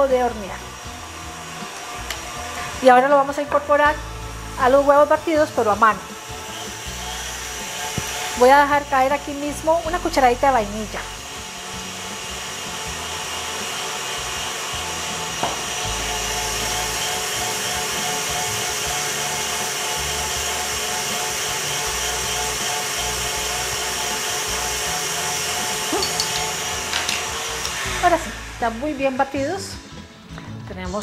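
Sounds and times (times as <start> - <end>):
stand mixer whisking: 4.0 - 28.9.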